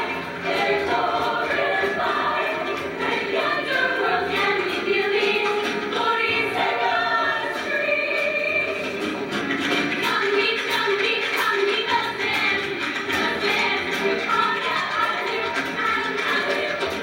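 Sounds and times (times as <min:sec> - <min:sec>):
choir singing in harmony: 0:00.0 - 0:09.1, 0:10.0 - 0:17.0
instrumental accompaniment: 0:00.0 - 0:17.0.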